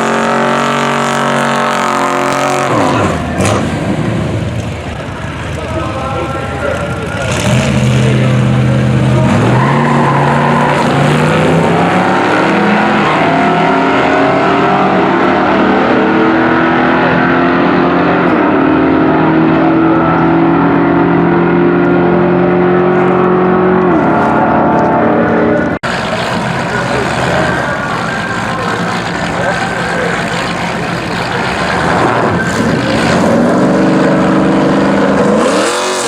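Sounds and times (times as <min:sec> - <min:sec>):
racing car engines at full throttle: 0:00.0 - 0:36.0.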